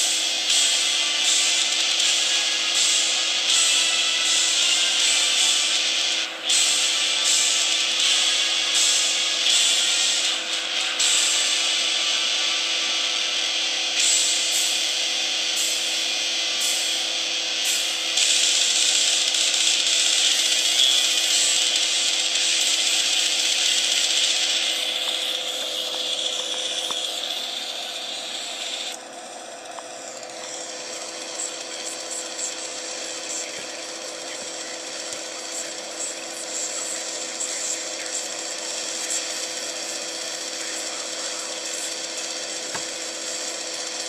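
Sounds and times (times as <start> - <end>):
hissy music from small loudspeaker: 0.0 - 44.0.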